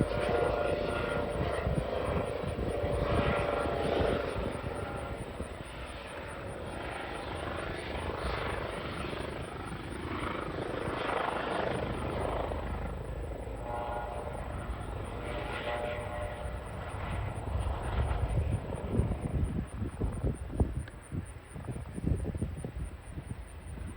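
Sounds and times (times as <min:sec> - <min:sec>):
faint whining tone: 0:00.0 - 0:23.9
helicopter rotor and engine: 0:00.0 - 0:23.9.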